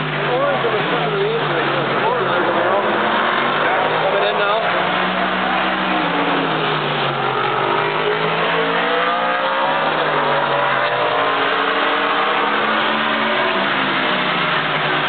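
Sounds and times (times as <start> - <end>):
race car engines accelerating past: 0.0 - 15.0.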